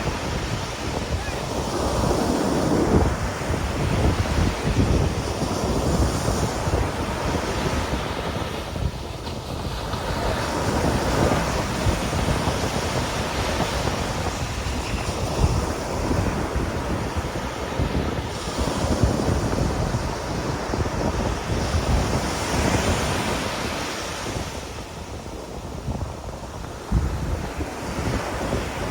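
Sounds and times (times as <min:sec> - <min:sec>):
ocean waves breaking: 0:00.0 - 0:28.9
wind buffeting microphone: 0:00.0 - 0:28.9.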